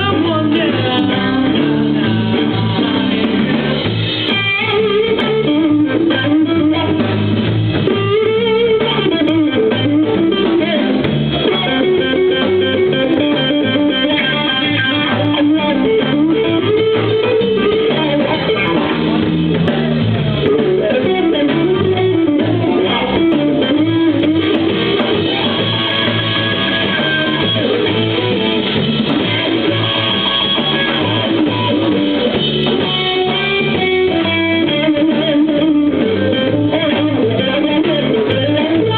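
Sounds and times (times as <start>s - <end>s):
electric guitar lead: 0.0s - 38.9s
live blues band: 0.0s - 38.9s.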